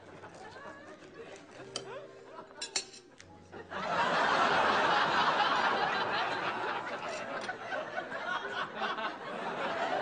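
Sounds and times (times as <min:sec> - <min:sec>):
audience laughing: 0:00.0 - 0:02.6, 0:03.5 - 0:10.0.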